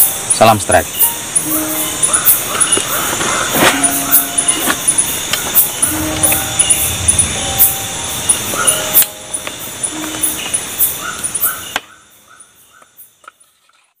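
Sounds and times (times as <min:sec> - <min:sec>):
steady hiss: 0:00.0 - 0:13.5
insects calling in rapid pulses: 0:00.0 - 0:13.7.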